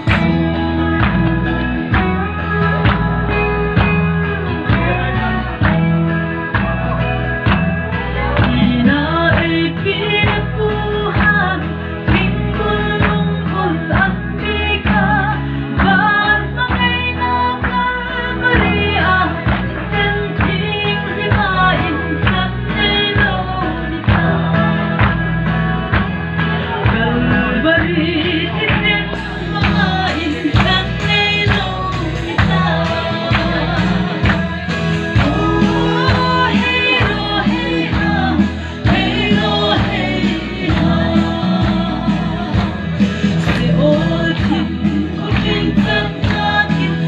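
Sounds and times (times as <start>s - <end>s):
loud music with singing: 0.0s - 47.0s.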